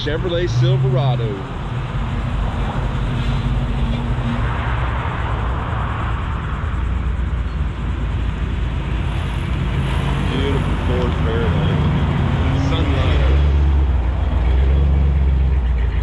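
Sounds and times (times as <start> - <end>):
pickup engine rumbling: 0.0 - 16.0.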